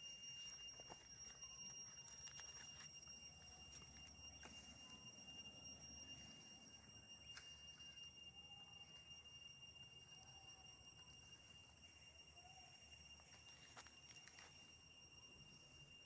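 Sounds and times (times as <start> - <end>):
faint high-pitched tone: 0.0 - 16.0.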